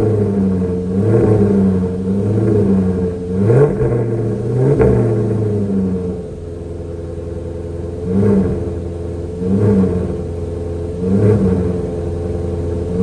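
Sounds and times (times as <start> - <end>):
car engine idling: 0.0 - 13.0
car engine revving: 0.0 - 13.0.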